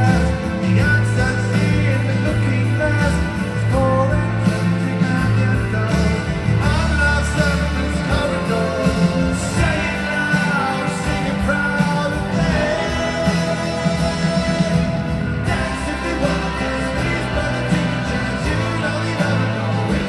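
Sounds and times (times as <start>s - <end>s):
live rock band playing ballad: 0.0s - 20.0s
person singing: 0.0s - 20.0s.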